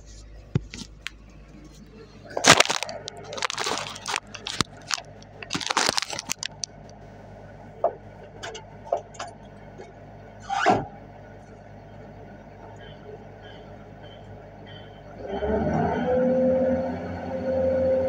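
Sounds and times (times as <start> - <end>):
excavator engine humming: 0.0 - 18.0.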